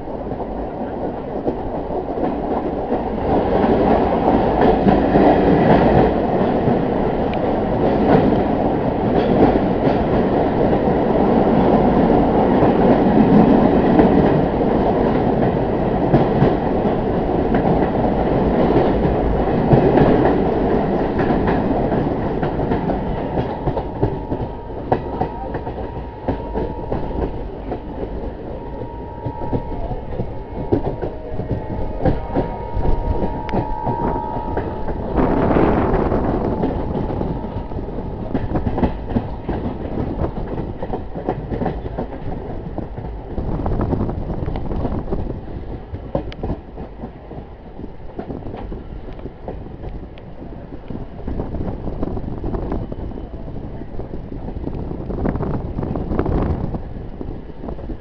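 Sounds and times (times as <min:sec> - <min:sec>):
train carriage rumble: 0:00.0 - 0:58.0.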